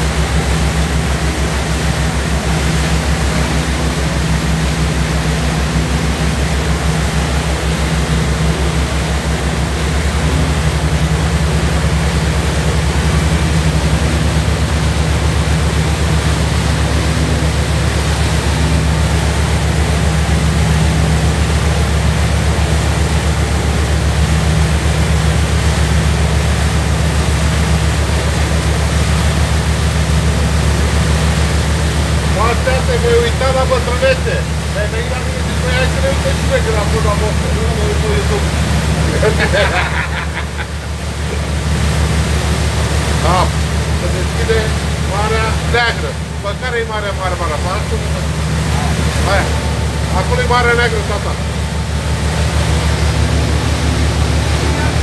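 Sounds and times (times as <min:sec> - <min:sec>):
boat engine throbbing: 0:00.0 - 0:55.0
wind and water rushing: 0:00.0 - 0:55.0.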